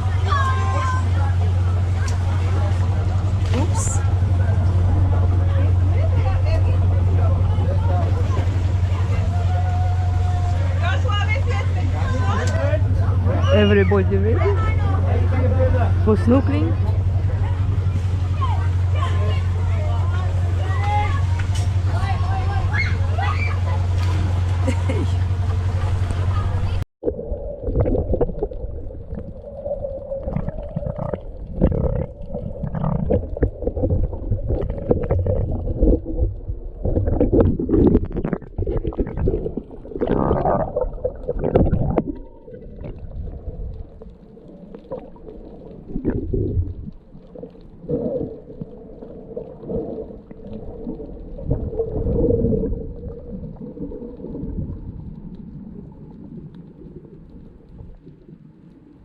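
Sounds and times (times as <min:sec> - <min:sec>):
faint steady hum: 0:00.0 - 0:59.0
muffled underwater water sloshing: 0:00.0 - 0:59.0.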